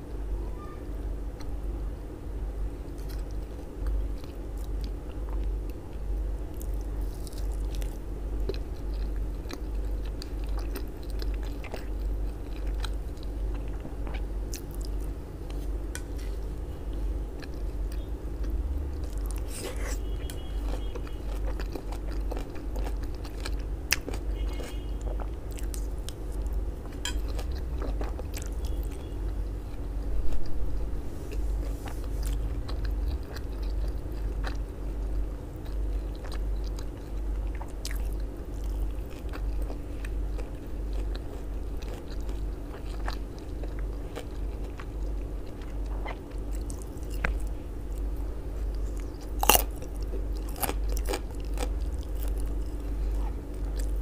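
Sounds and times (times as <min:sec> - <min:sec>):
low electrical hum: 0:00.0 - 0:54.0
chewing food: 0:02.8 - 0:54.0.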